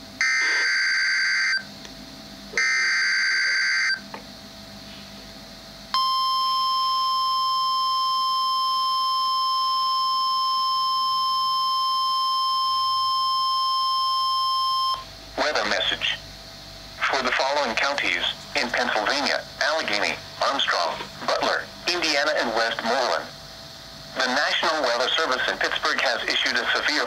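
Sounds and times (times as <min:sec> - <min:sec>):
steady warning alarm tone: 0:00.2 - 0:01.7, 0:02.5 - 0:04.1, 0:05.9 - 0:27.0.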